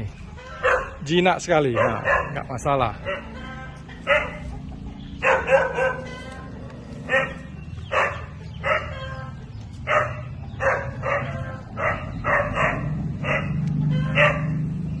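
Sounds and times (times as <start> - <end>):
animal calls: 0.3 - 15.0.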